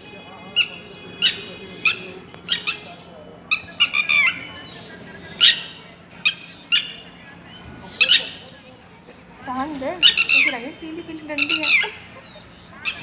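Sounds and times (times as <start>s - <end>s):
bird distress calls: 0.5s - 8.8s, 9.8s - 13.0s.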